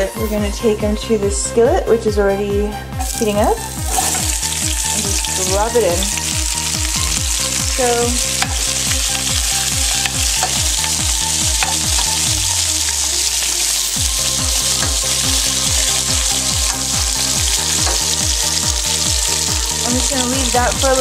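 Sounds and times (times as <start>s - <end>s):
vegetables sizzling in oil: 3.0s - 21.0s.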